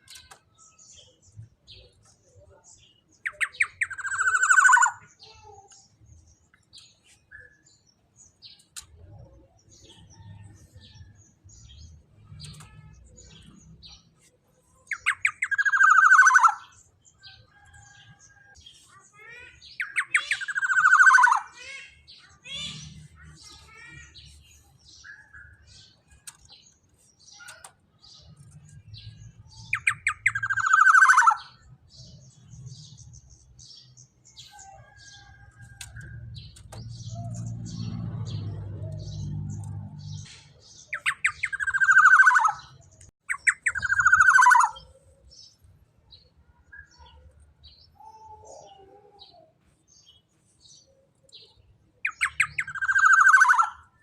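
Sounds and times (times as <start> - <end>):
faint bird chirps and ticks: 0.0 - 54.0.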